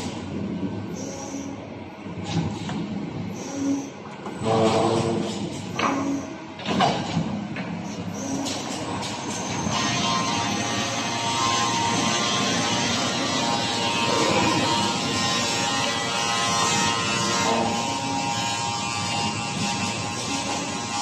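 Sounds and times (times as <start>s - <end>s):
machine motors whirring: 0.0s - 21.0s.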